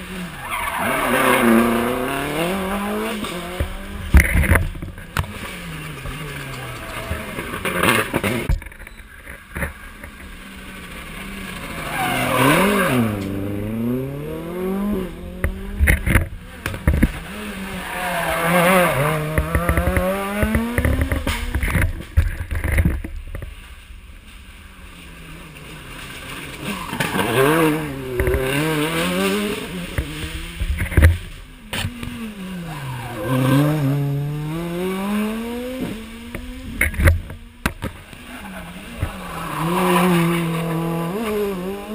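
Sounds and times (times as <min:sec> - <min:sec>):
exhaust cracks: 0:00.0 - 0:41.9
rally car engines revving: 0:00.0 - 0:41.9.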